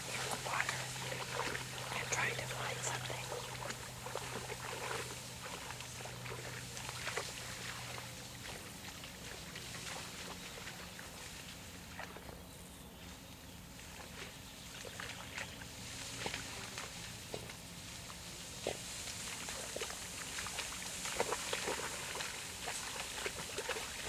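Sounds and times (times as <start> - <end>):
dog splashing through water: 0.0 - 11.2, 14.1 - 24.0.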